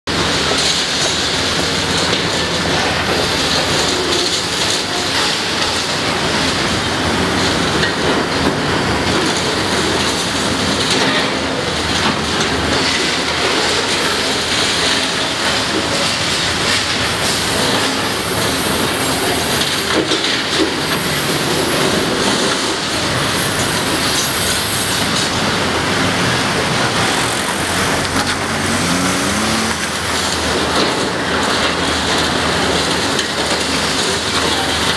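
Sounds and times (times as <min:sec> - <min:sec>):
excavator machine drone: 0:00.1 - 0:34.9
concrete crunching and grinding: 0:02.9 - 0:34.9.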